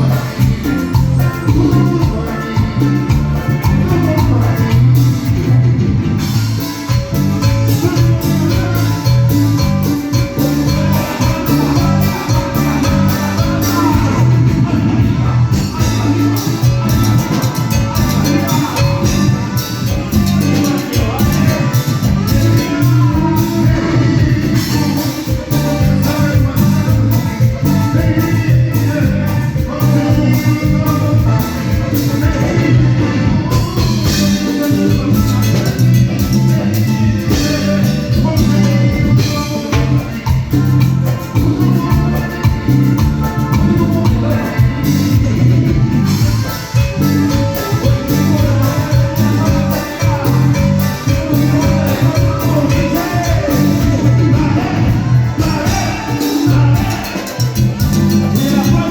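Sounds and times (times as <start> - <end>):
live band playing latin music: 0.0 - 58.9
person singing: 0.0 - 58.9.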